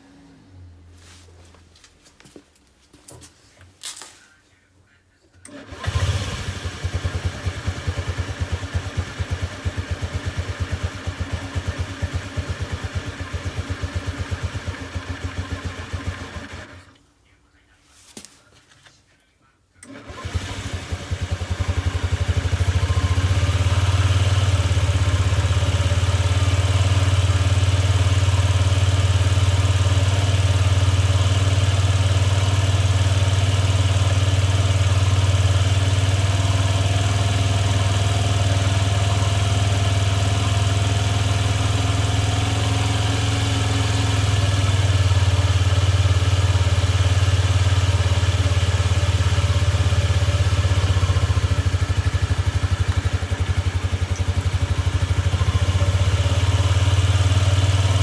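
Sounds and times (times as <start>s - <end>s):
scooter engine starting and idling: 5.4s - 17.0s, 19.8s - 58.0s.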